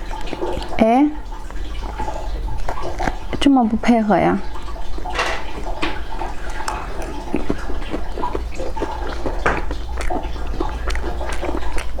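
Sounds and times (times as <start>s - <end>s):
wet chewing and smacking: 0.0s - 12.0s.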